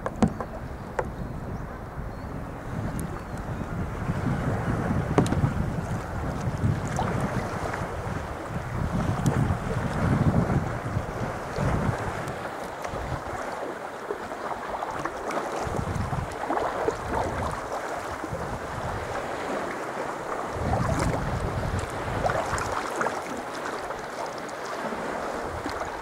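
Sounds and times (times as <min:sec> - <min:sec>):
wind buffeting microphone: 0:00.0 - 0:13.6, 0:14.8 - 0:24.0
water lapping and splashing: 0:02.8 - 0:26.0.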